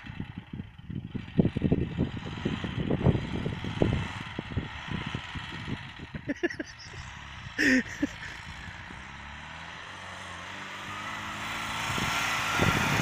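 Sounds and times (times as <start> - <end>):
distant engine rumble: 0.0 - 13.0.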